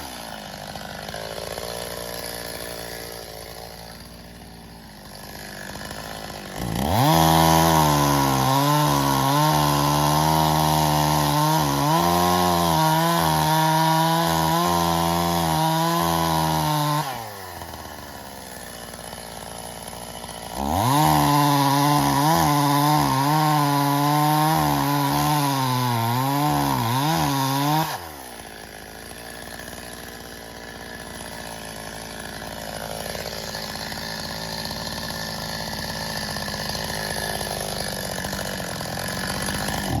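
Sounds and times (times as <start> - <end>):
chainsaw cutting logs: 0.0 - 40.0
chainsaw idling: 0.0 - 40.0.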